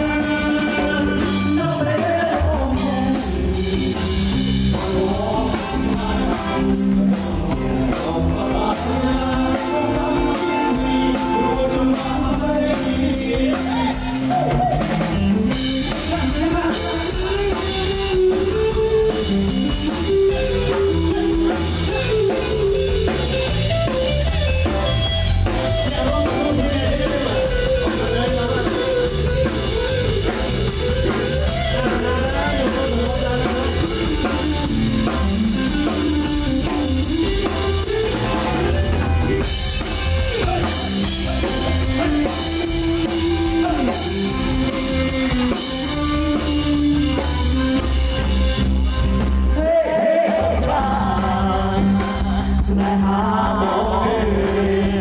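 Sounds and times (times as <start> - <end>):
upbeat dance band music: 0.0 - 55.0.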